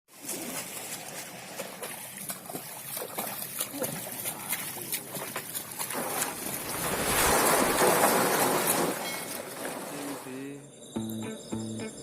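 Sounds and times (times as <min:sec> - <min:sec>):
river water rushing and splashing: 0:00.1 - 0:10.4.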